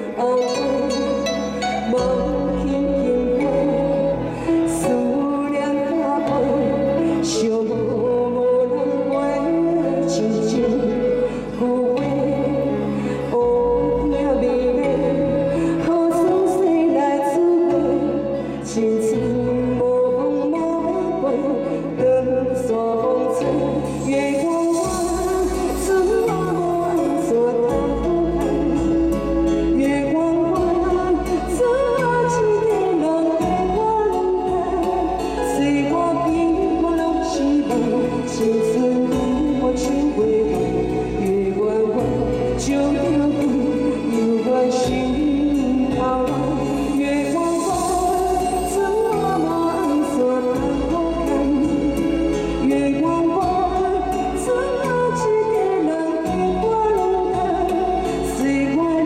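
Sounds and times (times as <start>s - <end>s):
woman singing into a microphone: 0.0s - 59.0s.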